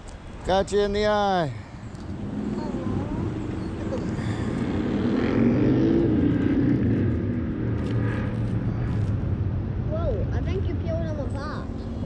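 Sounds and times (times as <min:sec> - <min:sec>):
vehicle passing: 0:00.5 - 0:12.0.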